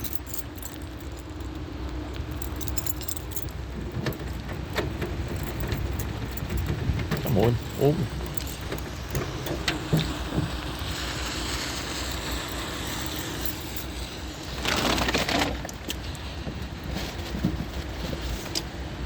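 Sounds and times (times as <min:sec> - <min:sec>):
scraping rustle: 0:02.4 - 0:18.9.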